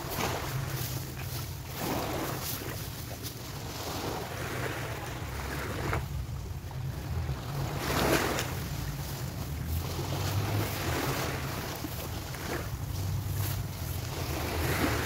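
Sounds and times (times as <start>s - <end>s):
small waves on sandy shore: 0.0s - 15.0s
wind buffeting microphone: 0.0s - 15.0s.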